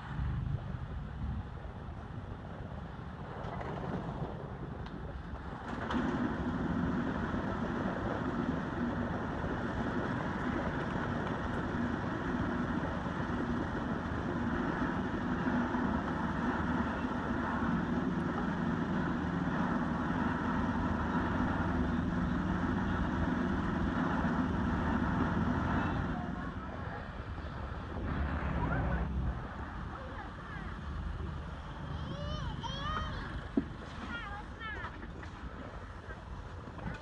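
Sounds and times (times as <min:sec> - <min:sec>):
low hum: 0:00.0 - 0:37.0
rumbling background noise: 0:00.0 - 0:37.0.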